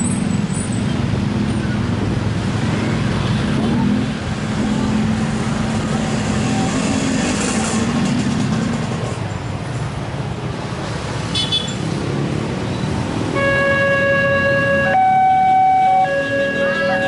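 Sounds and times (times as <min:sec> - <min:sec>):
road traffic engines: 0:00.0 - 0:17.0.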